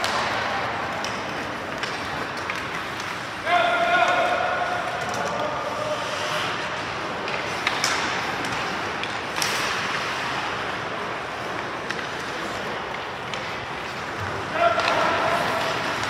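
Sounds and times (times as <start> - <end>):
hockey sticks and puck knocking: 0.0 - 16.0
steady rink hiss: 0.0 - 16.0.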